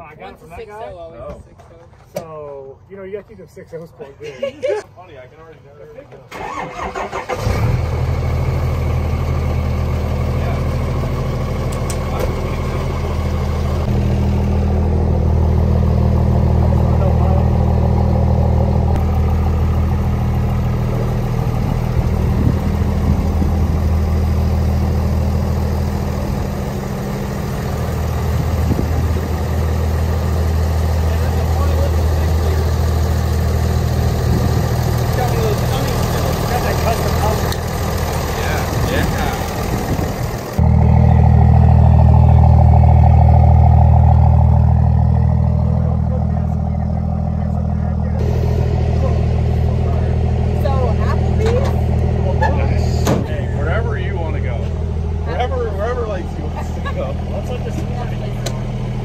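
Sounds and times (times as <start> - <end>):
diesel truck engine idling: 6.4 - 59.0.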